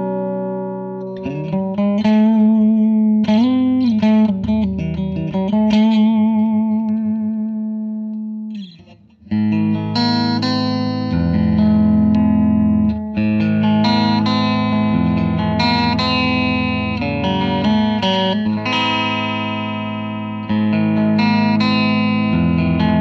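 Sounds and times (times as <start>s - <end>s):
electric guitar chords: 0.0s - 23.0s
electric guitar lead lines: 0.0s - 23.0s.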